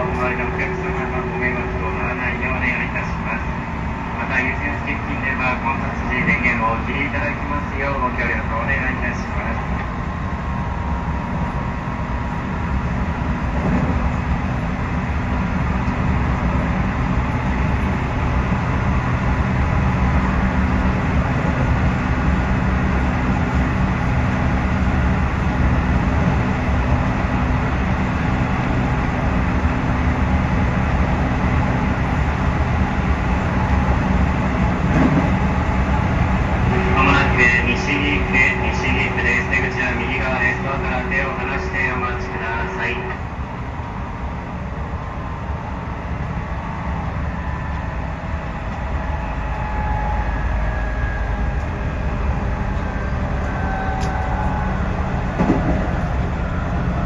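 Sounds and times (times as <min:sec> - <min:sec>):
traction motor hum: 0:00.0 - 0:57.0
wheels rumbling on rail: 0:00.0 - 0:57.0.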